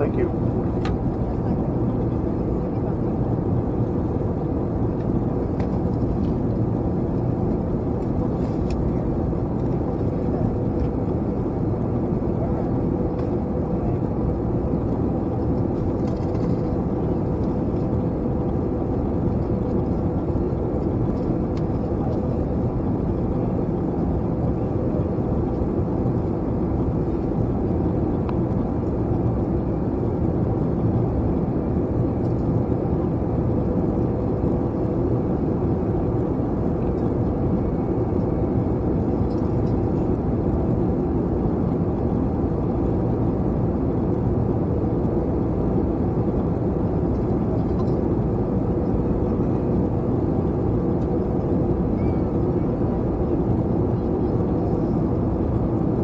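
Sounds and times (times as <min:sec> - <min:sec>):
airliner cabin engine rush: 0:00.0 - 0:56.0
faint steady hum: 0:00.0 - 0:56.0.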